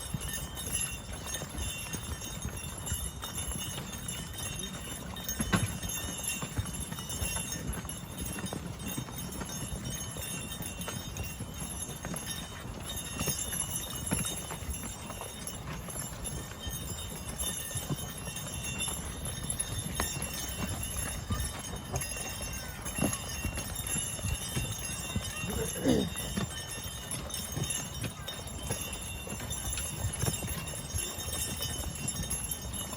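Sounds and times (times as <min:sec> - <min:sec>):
horse hooves walking: 0:00.0 - 0:32.9.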